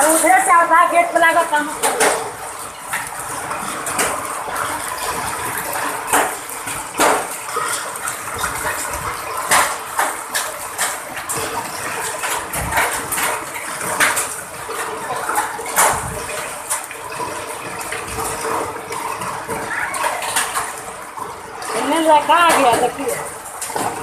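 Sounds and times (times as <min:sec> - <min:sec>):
hail and rain pouring: 0:00.0 - 0:24.0
hailstones striking close by: 0:00.0 - 0:24.0.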